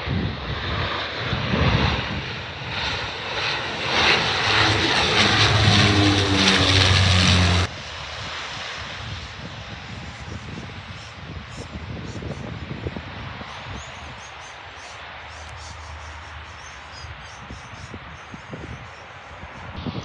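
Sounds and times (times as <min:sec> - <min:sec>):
turboprop airliner roaring: 0:00.0 - 0:20.0.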